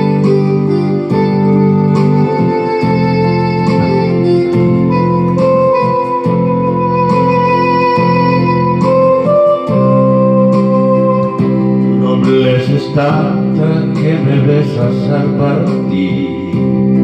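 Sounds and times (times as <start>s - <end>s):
electronic keyboard ballad: 0.0s - 17.0s.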